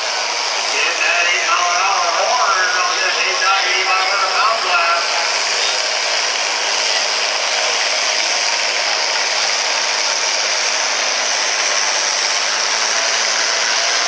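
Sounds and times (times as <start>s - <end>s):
tractor diesel engine roaring: 0.0s - 14.0s.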